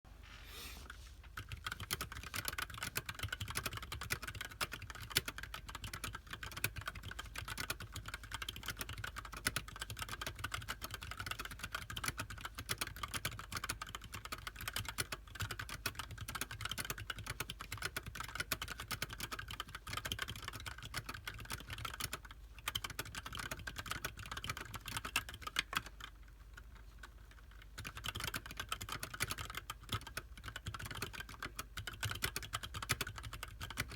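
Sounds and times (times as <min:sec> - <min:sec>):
mechanical keyboard typing: 0:01.3 - 0:26.7, 0:27.3 - 0:33.9.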